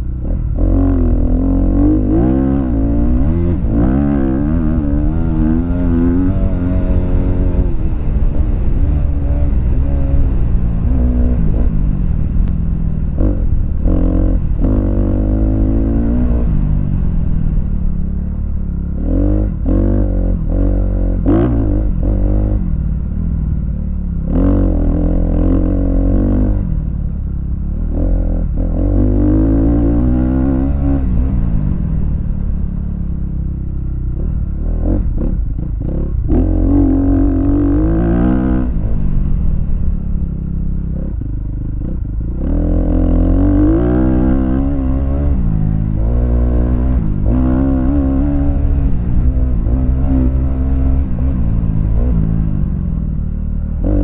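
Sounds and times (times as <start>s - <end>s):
dirt bike engine revving: 0.0s - 27.1s, 27.7s - 41.2s, 41.8s - 54.0s
low wind rumble: 0.0s - 54.0s.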